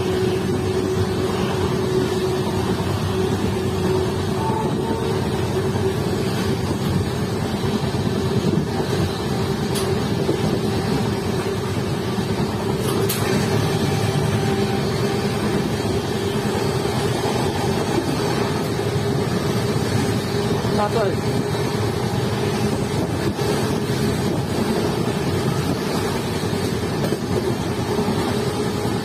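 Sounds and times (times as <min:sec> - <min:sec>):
train coach rumbling: 0:00.0 - 0:29.0.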